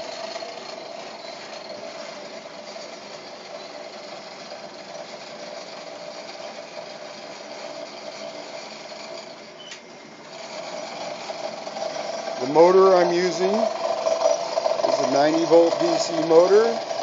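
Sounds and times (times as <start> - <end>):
grinding machine whirring: 0.0 - 17.0
steady hum: 0.0 - 17.0.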